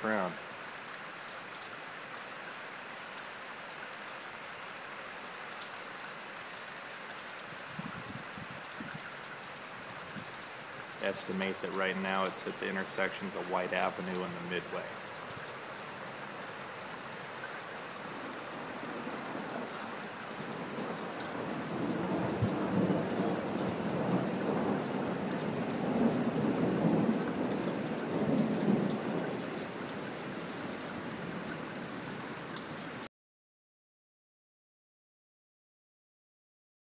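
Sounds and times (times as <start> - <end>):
wind and rain hiss: 0.0 - 33.0.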